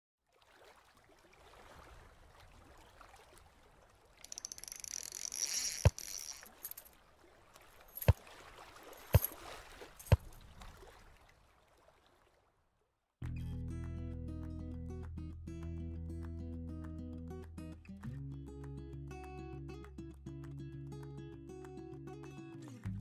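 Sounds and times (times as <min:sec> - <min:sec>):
water-like background: 0:00.2 - 0:23.0.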